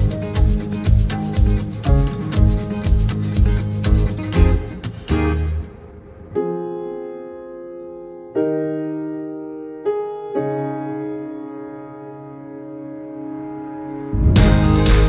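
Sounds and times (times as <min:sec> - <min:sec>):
sustained keyboard chords: 0:00.0 - 0:15.0.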